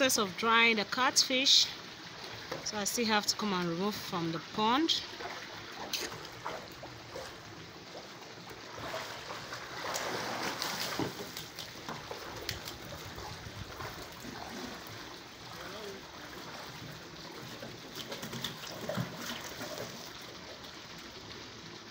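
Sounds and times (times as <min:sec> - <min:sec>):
water sloshing and splashing: 0:01.8 - 0:21.4.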